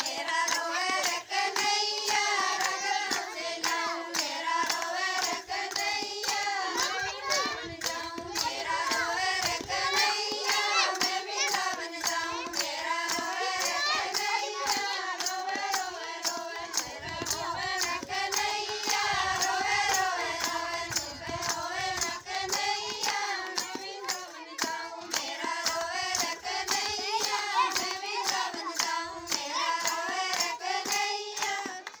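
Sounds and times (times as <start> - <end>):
hand-clapping: 0.0 - 32.0
women singing together: 0.0 - 32.0.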